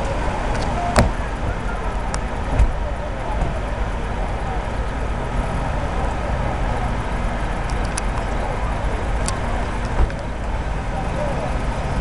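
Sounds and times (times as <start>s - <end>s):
car traffic rumble: 0.0s - 12.0s
faint voices: 0.0s - 12.0s.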